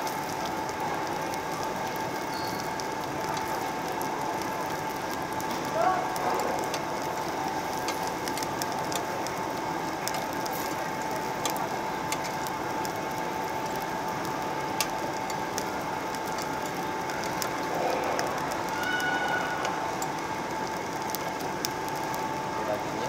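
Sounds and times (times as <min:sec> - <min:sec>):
fat crackling and popping: 0:00.0 - 0:23.0
meat sizzling on a grill: 0:00.0 - 0:23.0.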